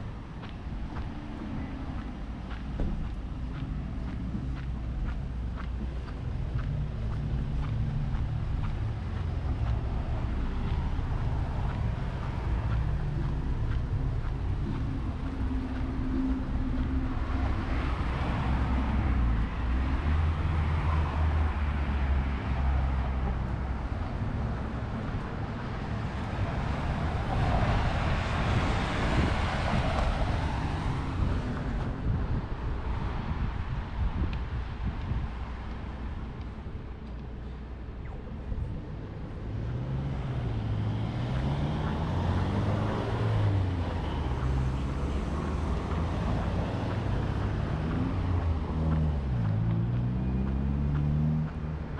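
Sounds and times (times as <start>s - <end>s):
cars driving past: 0.0s - 51.9s
low traffic rumble: 0.0s - 51.9s.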